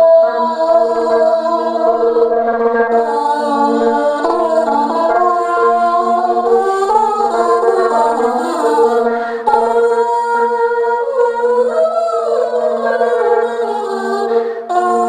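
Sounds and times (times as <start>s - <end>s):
choral singing: 0.0s - 10.1s, 12.2s - 15.0s
steady vocal drone: 0.0s - 15.0s.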